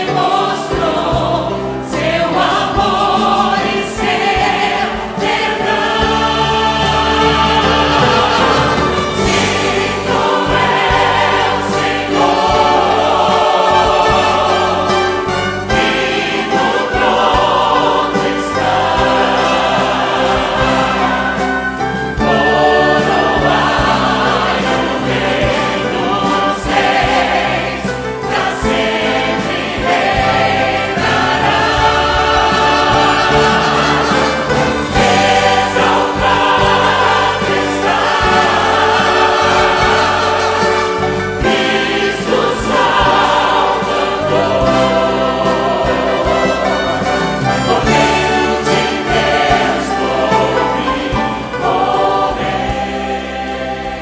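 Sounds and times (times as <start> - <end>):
choir and soloists singing: 0.0 - 54.0
orchestral accompaniment: 0.0 - 54.0.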